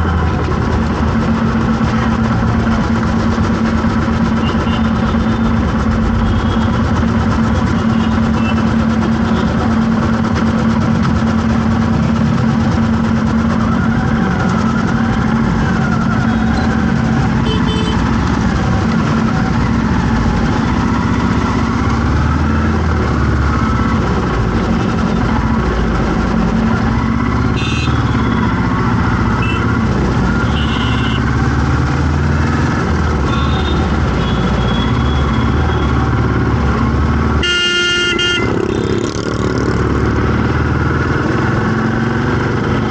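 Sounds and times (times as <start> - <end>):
vehicle engines idling in traffic: 0.0 - 42.9.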